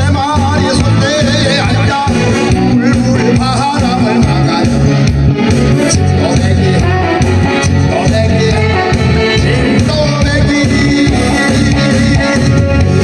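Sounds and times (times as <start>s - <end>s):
backing track with bass beat: 0.0s - 13.0s
man singing into a microphone: 0.0s - 13.0s.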